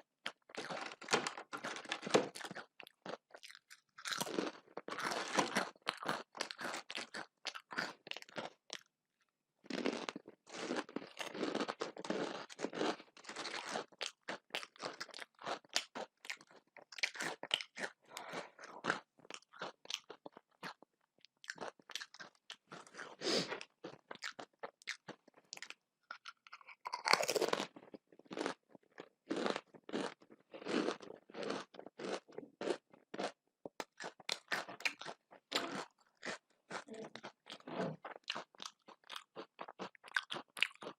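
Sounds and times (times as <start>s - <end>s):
person chewing and crunching food: 0.0s - 8.9s, 9.6s - 40.9s.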